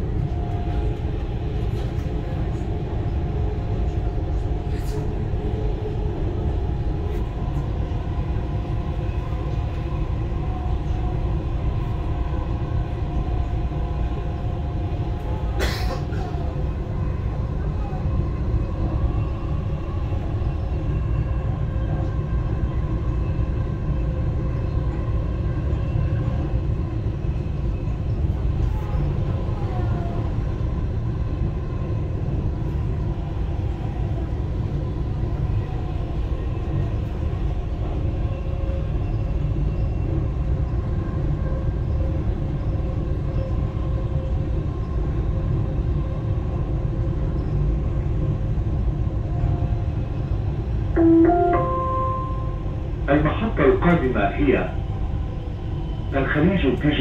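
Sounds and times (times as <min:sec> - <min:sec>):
train low rumble: 0:00.0 - 0:57.0
train whine: 0:00.0 - 0:57.0.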